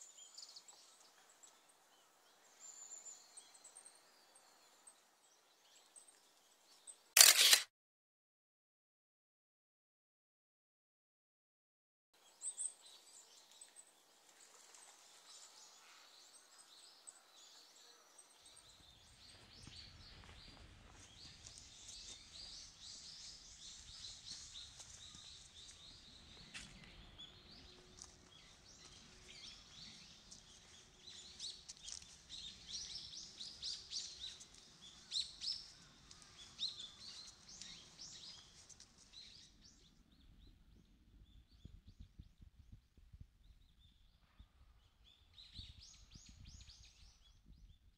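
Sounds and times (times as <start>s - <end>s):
songbirds chirping: 0.0s - 7.5s, 12.2s - 47.9s.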